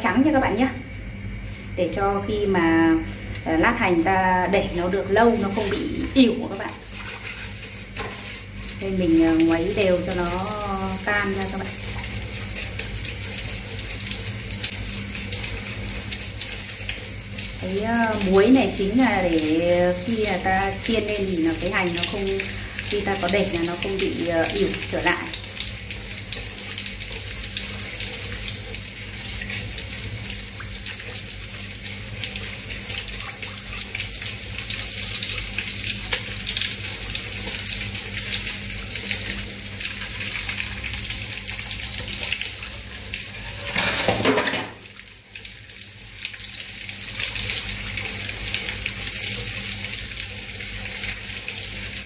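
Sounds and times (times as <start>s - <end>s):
hot oil sizzling in a wok: 0.0s - 52.0s.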